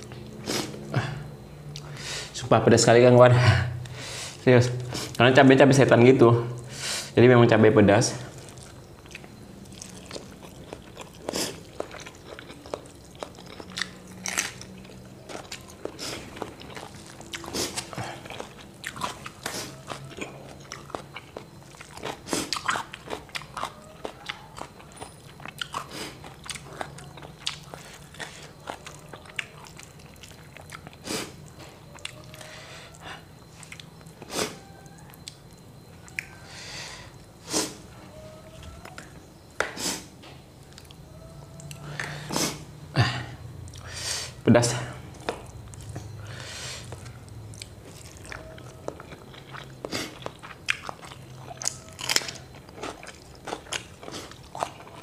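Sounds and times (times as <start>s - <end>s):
chewing with crunches: 8.2s - 44.4s, 45.1s - 55.0s.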